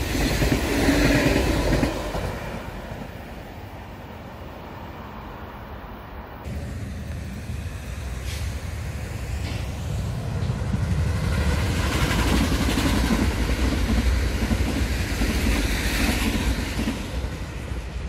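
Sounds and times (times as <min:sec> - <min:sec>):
train passing: 0:00.0 - 0:18.0
wheels rumbling on rails: 0:00.0 - 0:18.0.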